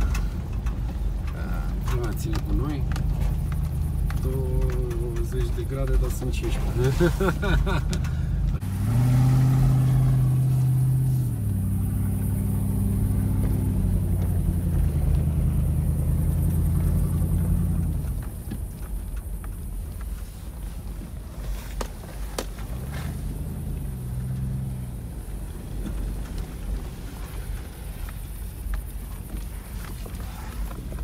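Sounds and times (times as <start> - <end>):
car engine from inside cabin: 0.0 - 31.0.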